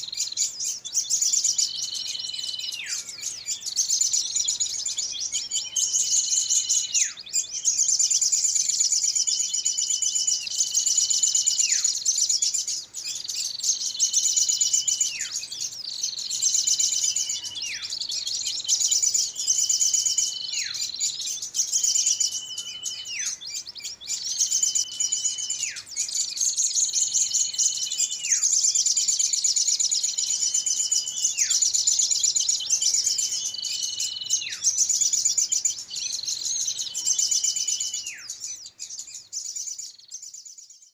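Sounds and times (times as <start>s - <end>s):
high fast chittering bird trill: 0.0s - 40.9s.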